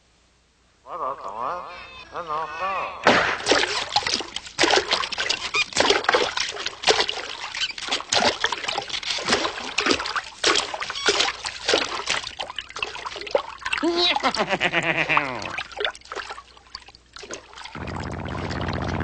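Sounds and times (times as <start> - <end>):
cartoon water splashes: 2.8 - 19.0.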